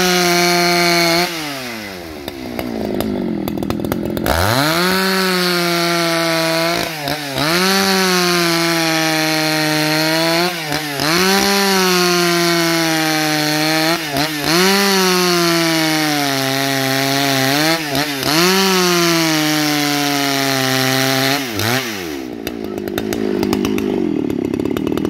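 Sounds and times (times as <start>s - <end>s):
chainsaw cutting through log: 0.0s - 25.0s
chainsaw idling roughly: 0.0s - 25.0s.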